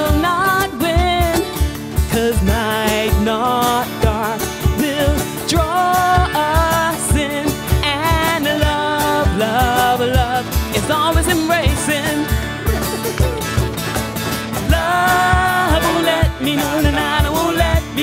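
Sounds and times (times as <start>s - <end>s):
band playing pop song: 0.0s - 18.0s.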